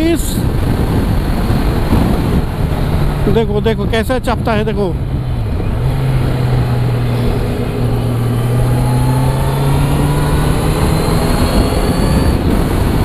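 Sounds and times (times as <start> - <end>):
motorcycle engine running: 0.0 - 13.0
road noise: 0.0 - 13.0
wind noise: 0.0 - 13.0.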